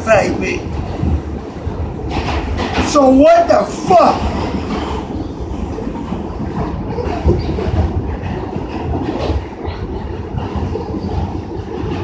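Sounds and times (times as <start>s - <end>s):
subway car low rumble: 0.0s - 12.0s
wheels clattering over track: 1.7s - 12.0s.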